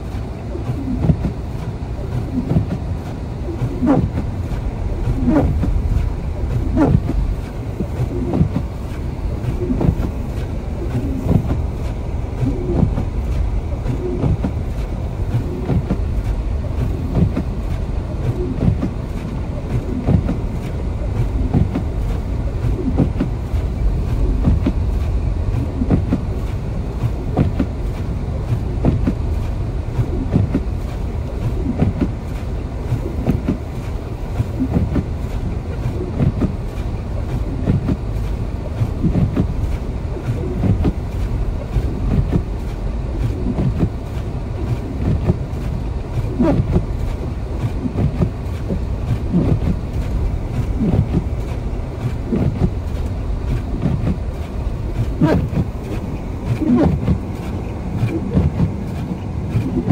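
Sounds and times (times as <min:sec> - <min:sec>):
car road rumble: 0:00.0 - 0:59.9
tyres and suspension thumping: 0:00.8 - 0:59.9.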